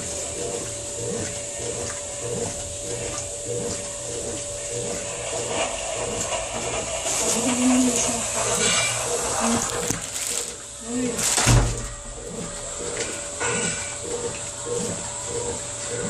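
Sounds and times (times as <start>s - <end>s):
washing machine churning: 0.0s - 16.0s.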